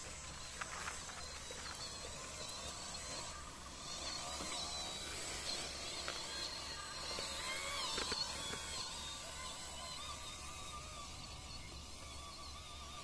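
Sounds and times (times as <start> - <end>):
electric motor and drivetrain whining: 0.0 - 13.0.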